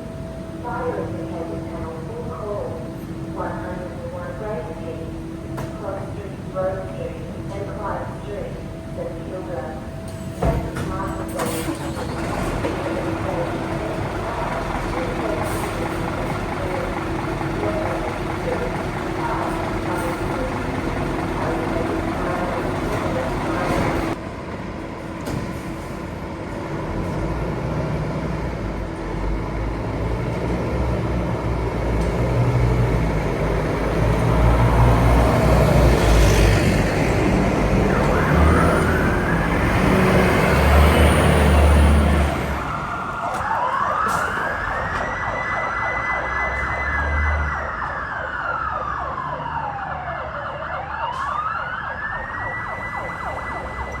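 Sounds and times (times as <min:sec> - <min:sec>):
siren wailing: 0:00.0 - 0:24.2, 0:33.9 - 0:54.0
heavy truck rumble: 0:00.0 - 0:54.0.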